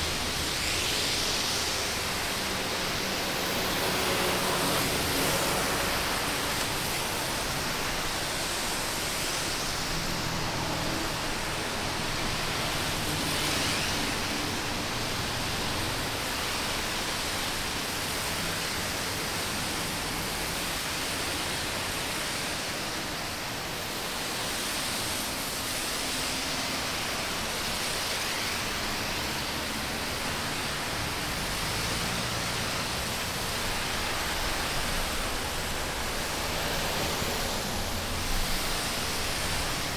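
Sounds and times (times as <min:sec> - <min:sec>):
tyres hissing on wet road: 0:00.0 - 0:39.9.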